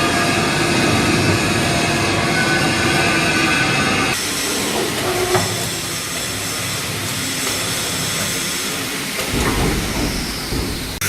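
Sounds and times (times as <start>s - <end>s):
loud hissing: 0.0s - 11.0s
whine: 0.0s - 11.0s.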